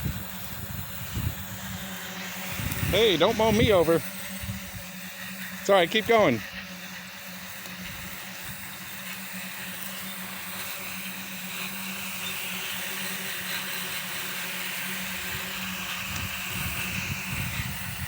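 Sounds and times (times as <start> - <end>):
lawn mower running: 0.0 - 18.0.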